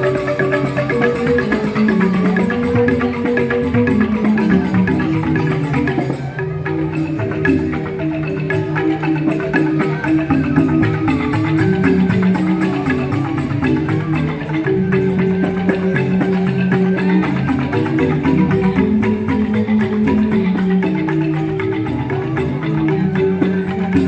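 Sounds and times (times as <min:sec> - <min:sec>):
bamboo xylophones playing fast runs: 0:00.0 - 0:24.0
percussion: 0:00.0 - 0:24.0.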